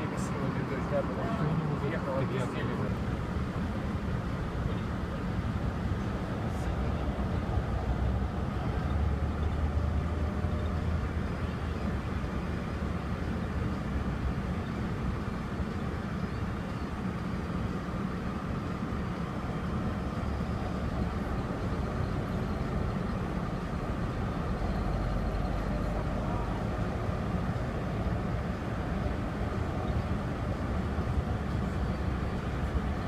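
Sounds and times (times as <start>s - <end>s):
road noise: 0.0s - 33.0s
vehicle engine rumble: 0.0s - 33.0s.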